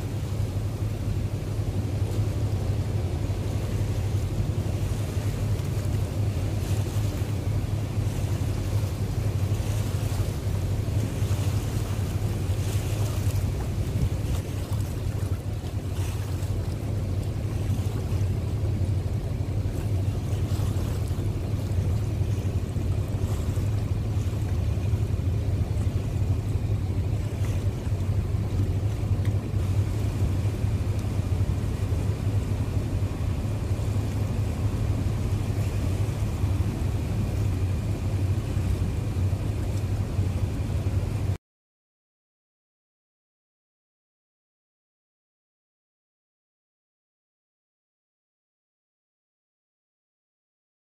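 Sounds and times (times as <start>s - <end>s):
boat engines rumbling: 0.0s - 41.4s
wind buffeting microphone: 0.0s - 41.4s.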